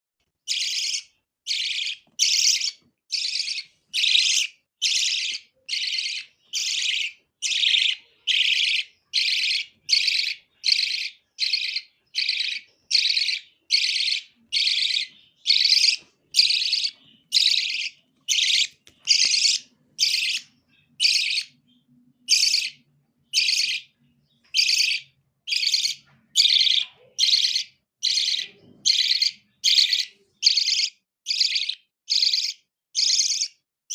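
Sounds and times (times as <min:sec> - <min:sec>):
young birds raspy chirps: 0:00.4 - 0:21.6, 0:22.2 - 0:33.6.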